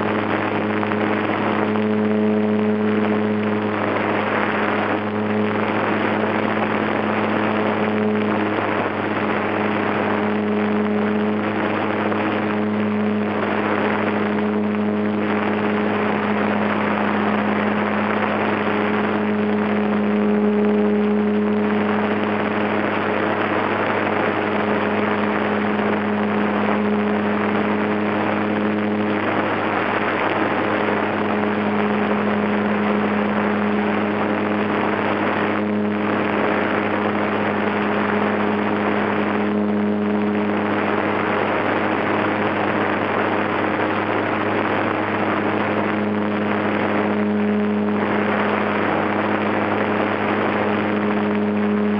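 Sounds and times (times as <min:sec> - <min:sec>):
electric motor and propeller whining: 0:00.0 - 0:51.9.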